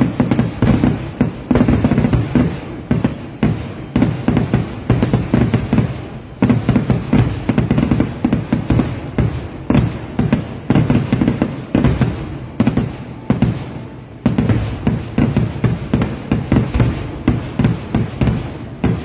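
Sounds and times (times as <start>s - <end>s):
fireworks bangs and booms: 0.0s - 19.0s.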